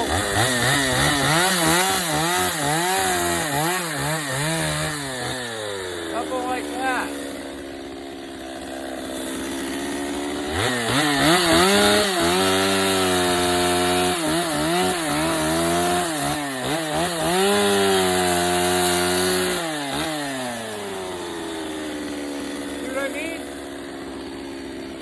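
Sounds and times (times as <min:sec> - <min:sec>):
chainsaw cutting into log: 0:00.0 - 0:25.0.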